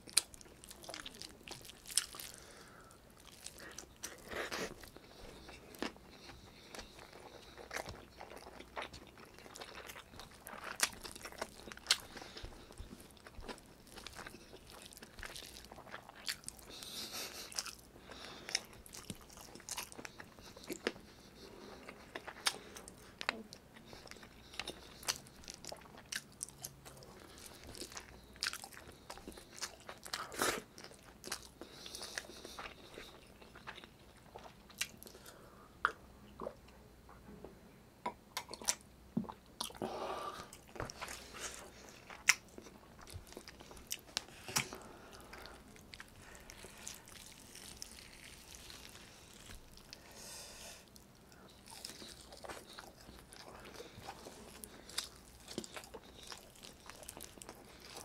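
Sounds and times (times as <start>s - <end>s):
chewing and lip-smacking: 0.0s - 36.6s, 38.1s - 39.8s, 40.4s - 50.0s, 50.9s - 58.0s.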